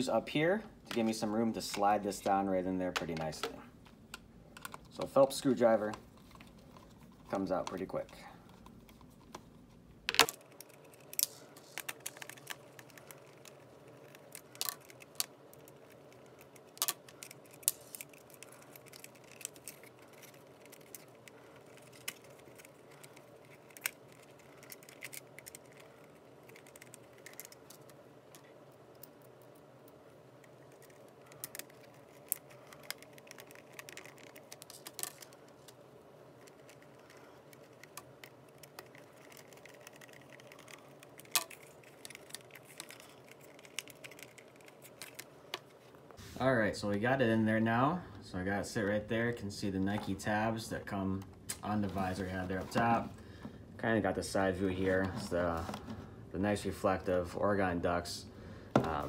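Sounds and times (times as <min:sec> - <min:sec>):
low room hum: 0:00.0 - 0:59.0.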